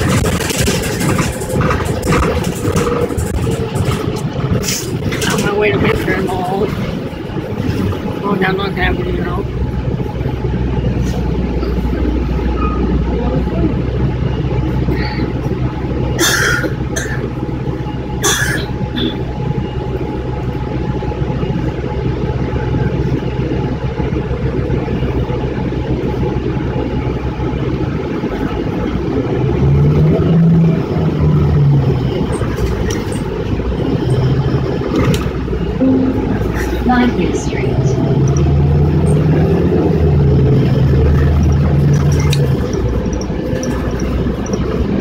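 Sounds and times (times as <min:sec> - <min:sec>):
bus engine idling and revving: 0:00.0 - 0:45.0.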